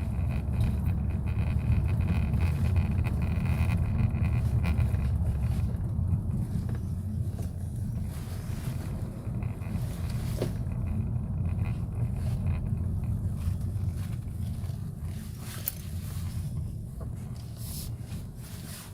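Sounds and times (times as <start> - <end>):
car engine low rumble: 0.0 - 18.9.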